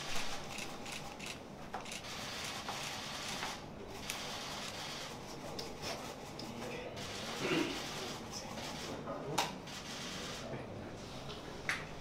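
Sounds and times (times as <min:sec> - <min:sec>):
room noise: 0:00.0 - 0:12.0.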